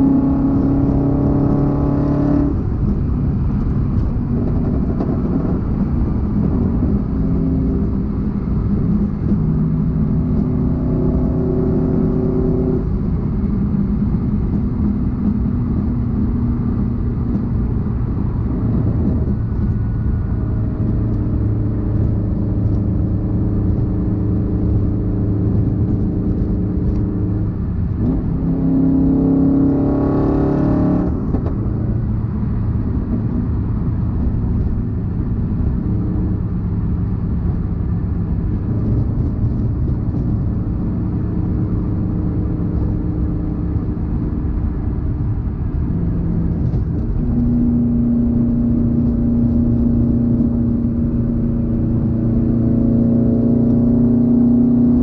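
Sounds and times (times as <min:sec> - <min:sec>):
car engine droning inside cabin: 0:00.0 - 0:55.0.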